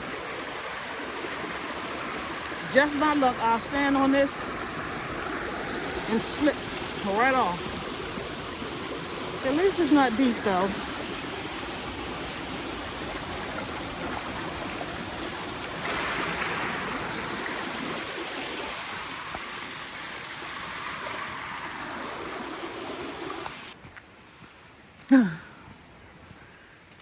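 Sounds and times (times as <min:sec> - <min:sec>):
creek trickling over rocks: 0:00.0 - 0:23.8.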